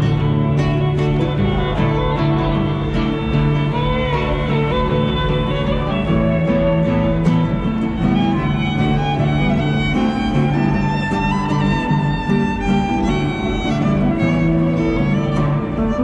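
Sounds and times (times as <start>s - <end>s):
strummed acoustic guitar: 0.0s - 16.0s
violin melody: 0.0s - 16.0s.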